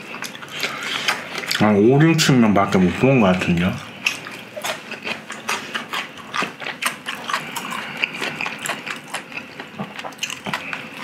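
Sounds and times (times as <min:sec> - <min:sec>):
chewing and lip-smacking: 0:00.0 - 0:01.8, 0:03.3 - 0:11.0.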